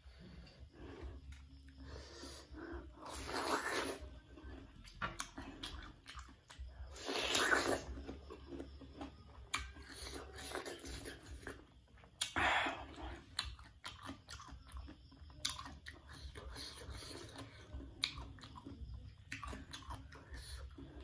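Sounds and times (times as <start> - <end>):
chewing and crunching: 0.1 - 21.0.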